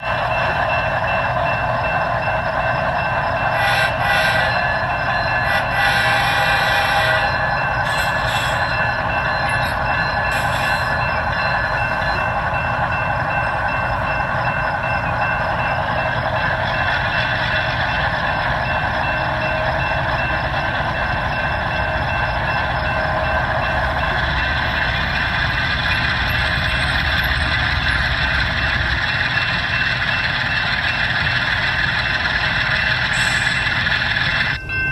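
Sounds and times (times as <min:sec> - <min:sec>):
railroad crossing bell ringing: 0:00.0 - 0:34.9.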